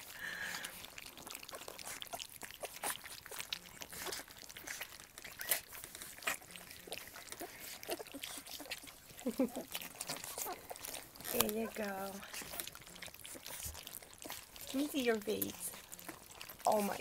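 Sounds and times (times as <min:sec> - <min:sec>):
puppies lapping wet food: 0:00.0 - 0:17.0.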